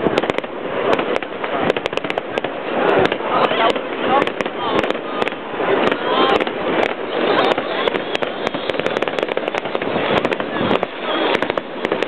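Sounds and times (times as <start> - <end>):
distant explosions: 0.0 - 12.0
fireworks bangs and crackles: 0.0 - 12.0.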